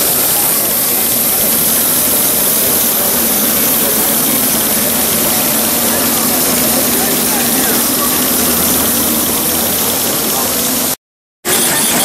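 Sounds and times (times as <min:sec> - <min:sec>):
air hissing: 0:00.0 - 0:12.0
model engines chuffing: 0:00.0 - 0:12.0.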